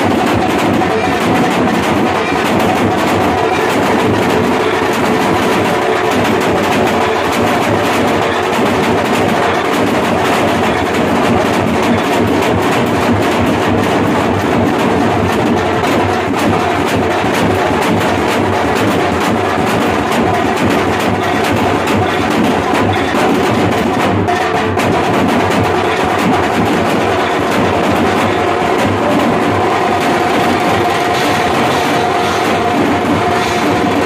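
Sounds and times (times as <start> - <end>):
drum band playing: 0.0 - 34.0.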